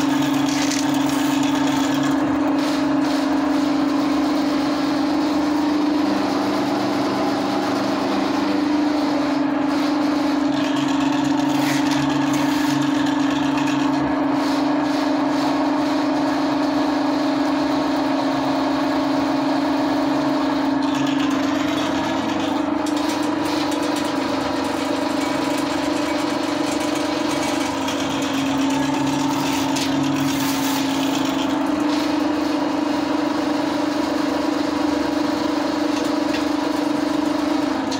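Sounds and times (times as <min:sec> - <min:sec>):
drain-cleaning machine humming: 0:00.0 - 0:37.9.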